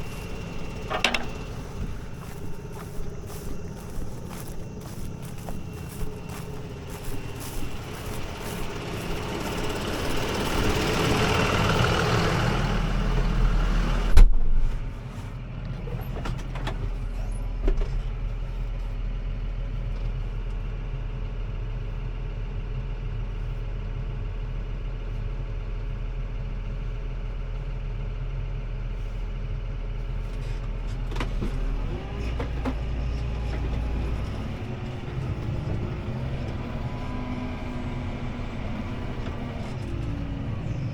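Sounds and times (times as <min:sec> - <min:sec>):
tractor diesel engine drone: 0:00.0 - 0:40.9.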